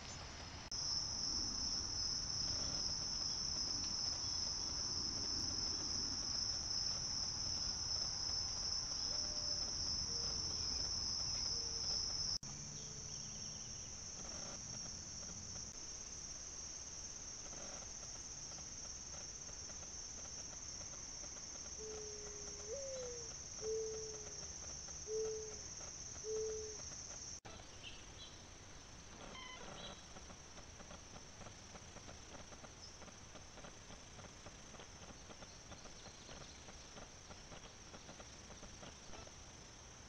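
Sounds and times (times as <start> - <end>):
insects chirping: 0.0 - 40.0.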